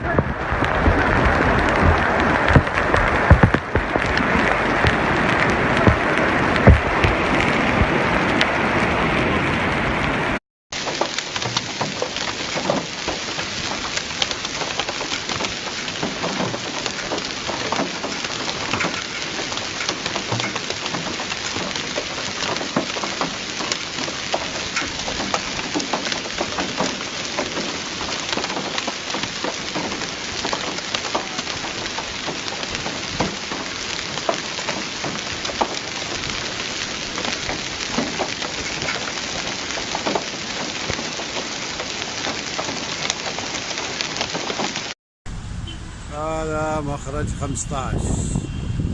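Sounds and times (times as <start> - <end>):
heavy rain on hard surface: 0.0 - 48.9.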